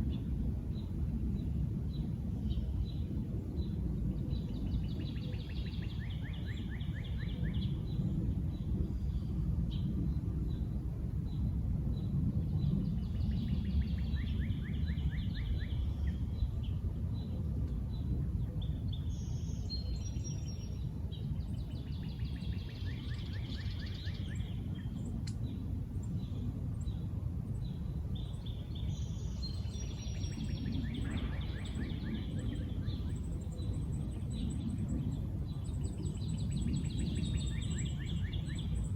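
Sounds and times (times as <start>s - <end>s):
low background rumble: 0.0s - 38.9s
songbird singing rapid notes: 0.1s - 38.9s.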